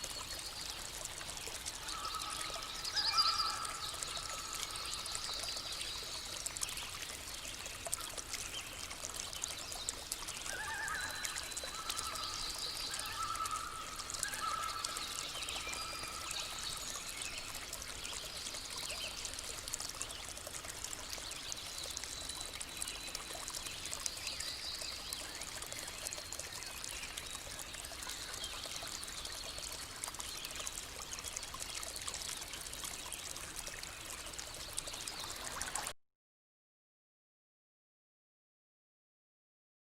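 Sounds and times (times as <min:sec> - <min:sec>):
stream water running: 0:00.0 - 0:35.9.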